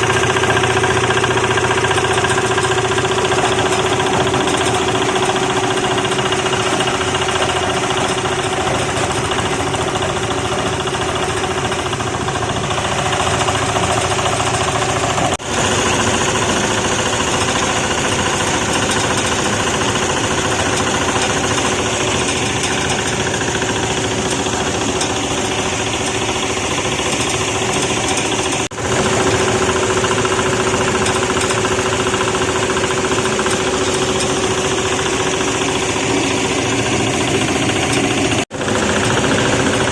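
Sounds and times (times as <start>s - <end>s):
constant machine hum: 0.0s - 39.9s
sorting machine rattling drone: 0.0s - 39.9s.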